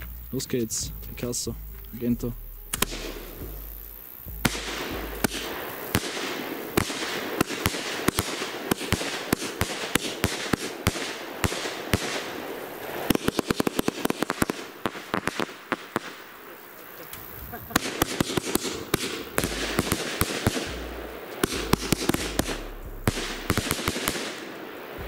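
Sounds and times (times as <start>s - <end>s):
firework hissing: 0.0s - 25.0s
rapid rattle of firework cracks: 0.0s - 25.0s
firework launch cracks and bursts: 2.0s - 25.0s.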